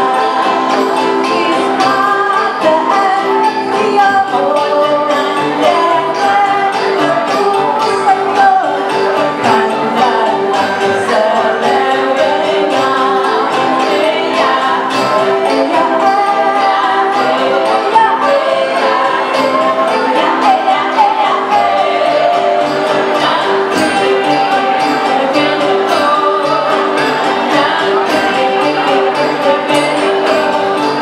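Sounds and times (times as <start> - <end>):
live band playing: 0.0 - 31.0
women singing: 0.0 - 31.0.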